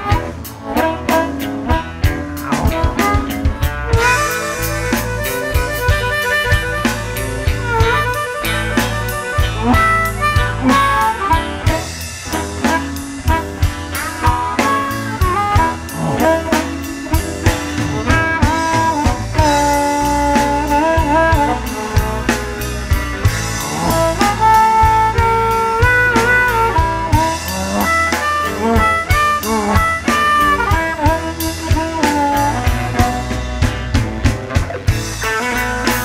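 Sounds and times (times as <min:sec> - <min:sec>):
bass: 0:00.0 - 0:36.0
drum kit: 0:00.0 - 0:36.0
lead melody with bent notes: 0:00.0 - 0:36.0.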